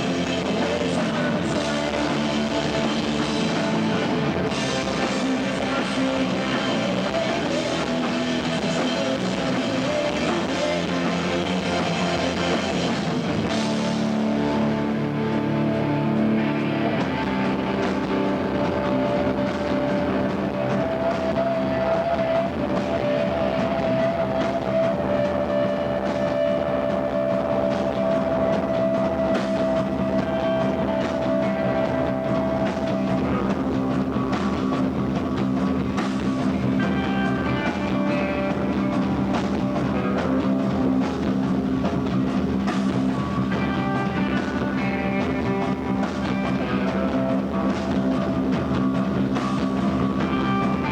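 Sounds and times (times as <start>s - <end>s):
distorted electric guitars: 0.0s - 50.9s
drum kit: 0.0s - 50.9s.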